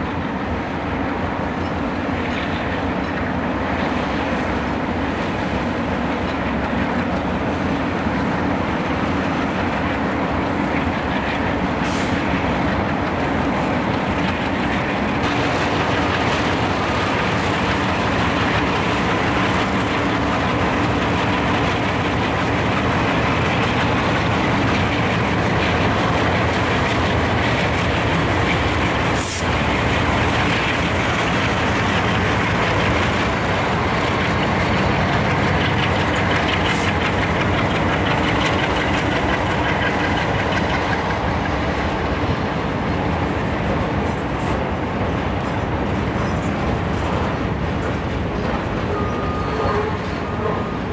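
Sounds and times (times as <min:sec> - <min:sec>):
diesel locomotive engine drone: 0:00.0 - 0:50.9
rumble of passing train cars: 0:00.0 - 0:50.9.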